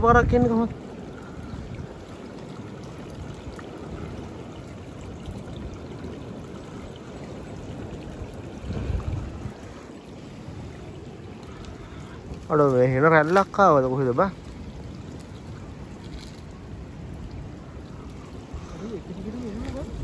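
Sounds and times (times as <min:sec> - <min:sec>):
low surge of water: 0:00.0 - 0:20.0
waves rushing across sand: 0:00.0 - 0:20.0.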